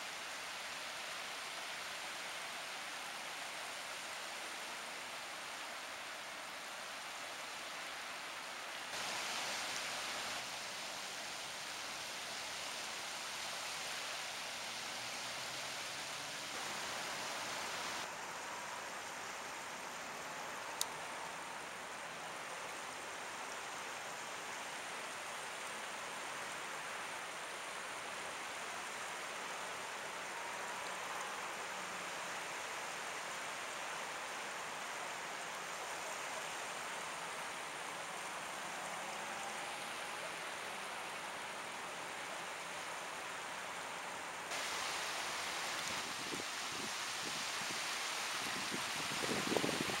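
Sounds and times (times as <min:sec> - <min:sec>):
surf washing on a beach: 0:00.0 - 0:50.0.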